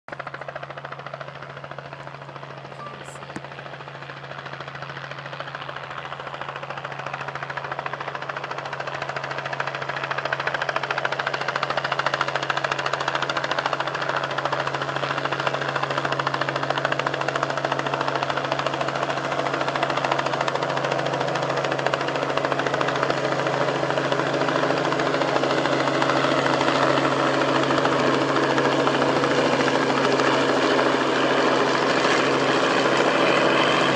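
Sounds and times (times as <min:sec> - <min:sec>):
helicopter flying: 0:00.1 - 0:33.9.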